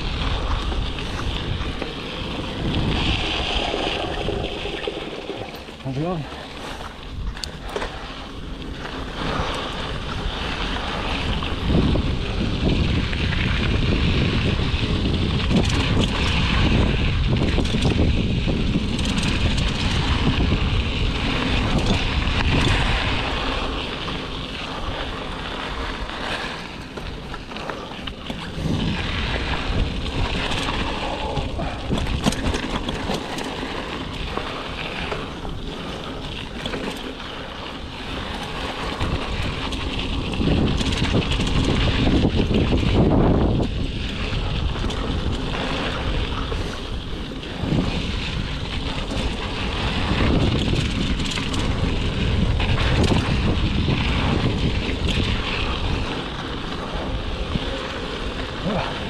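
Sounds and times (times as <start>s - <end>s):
bike tyres on dirt: 0.0s - 59.0s
wind buffeting microphone: 0.0s - 59.0s
bike knocks and rattles: 6.7s - 58.8s.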